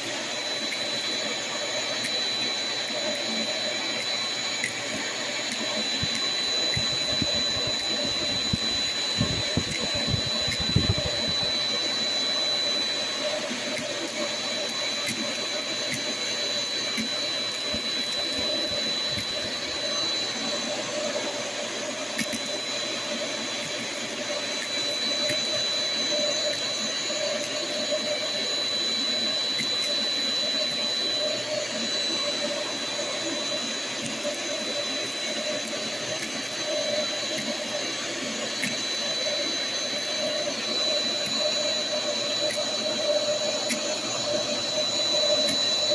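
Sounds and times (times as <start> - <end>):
shop vac running: 0.0 - 45.9.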